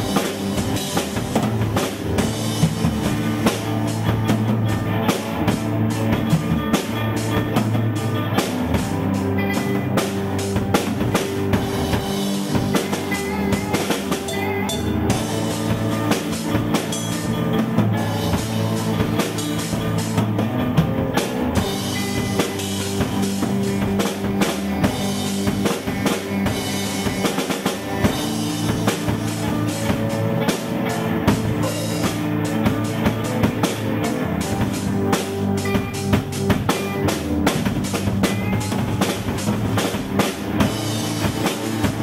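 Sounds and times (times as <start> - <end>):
drum kit beat: 0.0 - 42.0
electric guitar held notes: 0.0 - 42.0.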